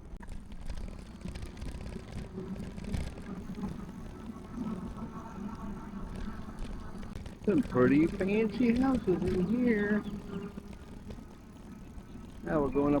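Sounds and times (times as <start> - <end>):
wind and rolling tyres rumble: 0.0 - 13.0.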